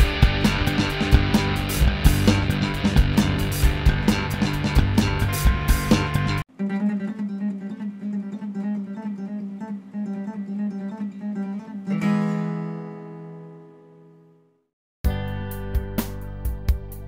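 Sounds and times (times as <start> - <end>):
acoustic guitar picking: 0.0 - 14.4.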